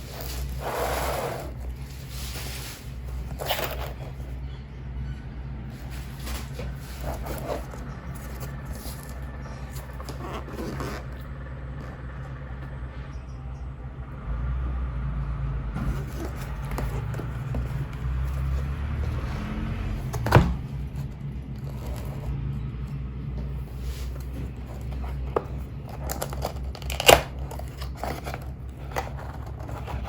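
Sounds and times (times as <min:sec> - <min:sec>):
packaging scraping and rustling: 0:00.0 - 0:04.5, 0:05.7 - 0:12.1, 0:15.8 - 0:22.4, 0:23.4 - 0:30.0
steady low hum: 0:00.0 - 0:30.0.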